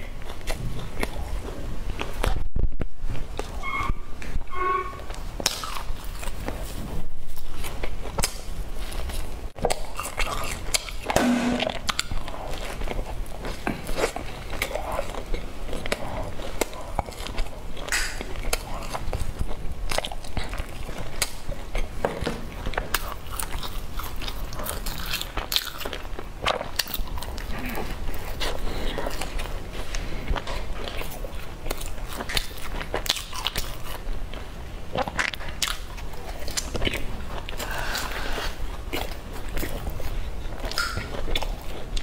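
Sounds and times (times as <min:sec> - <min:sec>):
person chewing bread: 0:00.0 - 0:03.6, 0:05.0 - 0:42.0.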